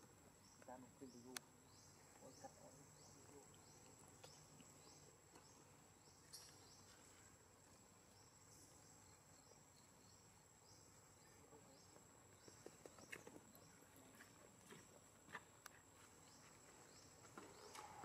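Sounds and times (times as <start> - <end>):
insect chirps: 0.0 - 18.0
insects whining: 0.0 - 18.0.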